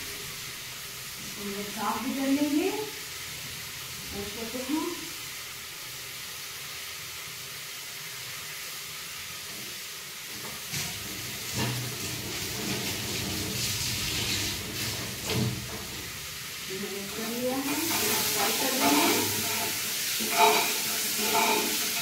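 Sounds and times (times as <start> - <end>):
spices sizzling in a pot: 0.0 - 22.0.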